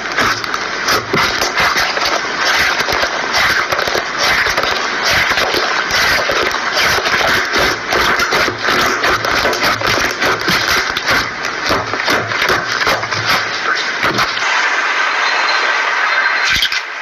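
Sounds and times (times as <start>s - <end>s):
slime squeezed crackling: 0.0s - 14.4s.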